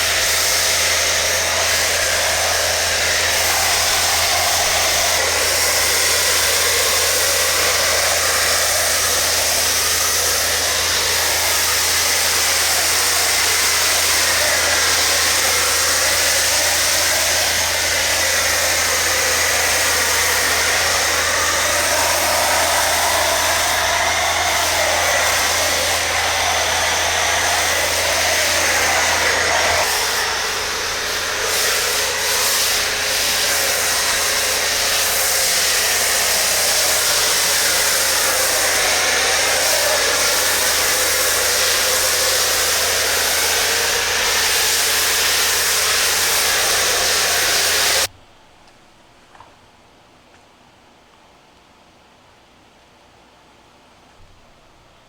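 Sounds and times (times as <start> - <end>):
electric air blower running: 0.0 - 48.1.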